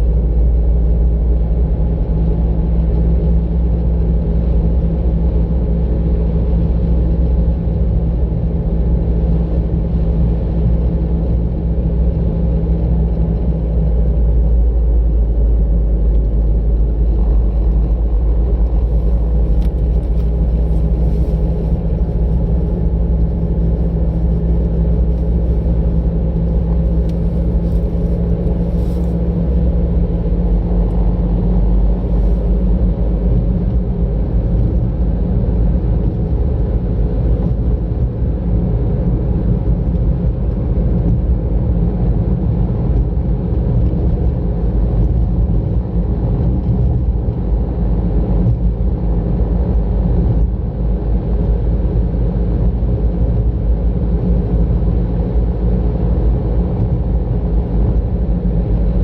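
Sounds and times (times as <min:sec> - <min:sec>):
car engine rumble: 0:00.0 - 0:59.0
tyre road noise: 0:00.0 - 0:59.0.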